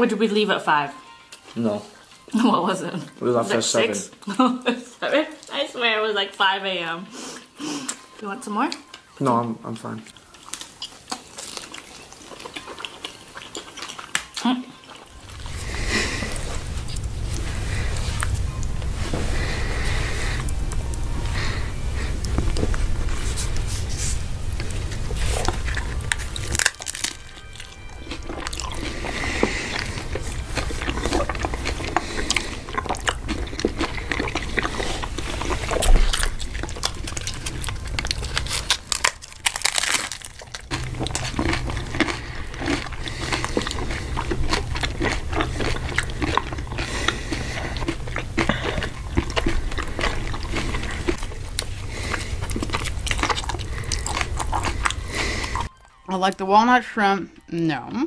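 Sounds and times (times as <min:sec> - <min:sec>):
chewing: 0:07.3 - 0:56.4
crunching taco shells: 0:08.8 - 0:56.1.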